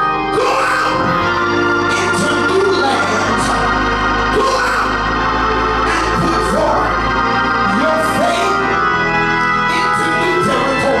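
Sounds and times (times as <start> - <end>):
organ music: 0.0 - 11.0.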